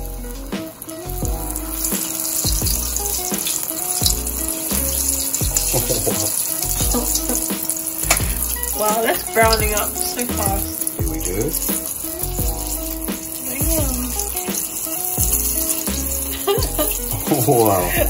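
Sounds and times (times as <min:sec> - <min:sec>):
background music with beat: 0:00.0 - 0:18.0
food deep-frying in hot oil: 0:00.0 - 0:18.0.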